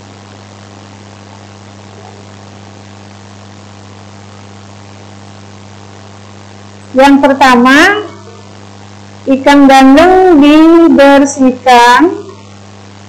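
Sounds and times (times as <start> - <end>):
constant hiss: 0.0 - 13.0
low electrical hum: 0.0 - 13.0.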